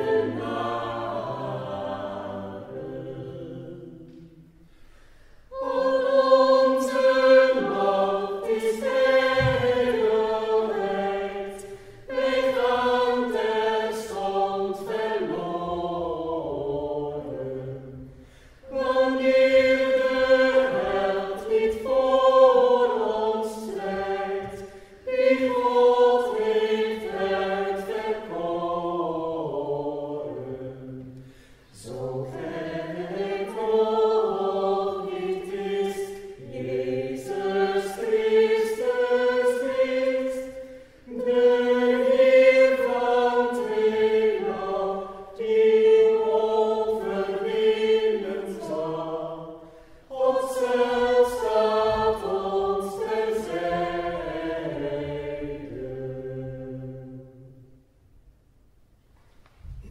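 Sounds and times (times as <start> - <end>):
mixed choir singing a cappella: 0.0 - 57.8.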